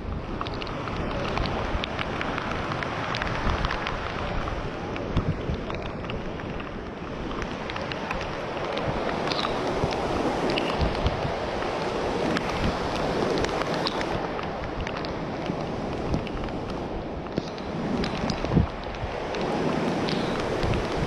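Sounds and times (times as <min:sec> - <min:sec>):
rain falling: 0:00.0 - 0:21.0
wind buffeting microphone: 0:00.0 - 0:21.0.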